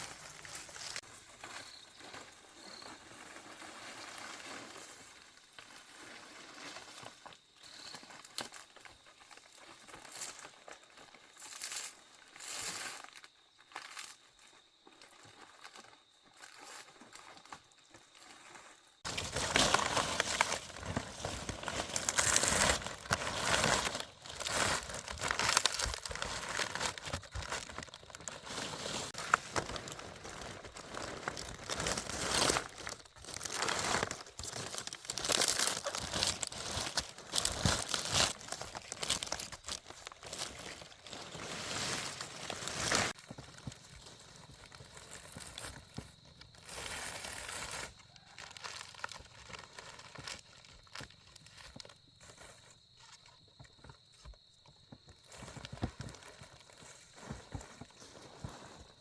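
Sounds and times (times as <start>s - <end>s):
dry material rustling and crinkling: 0.0s - 59.0s.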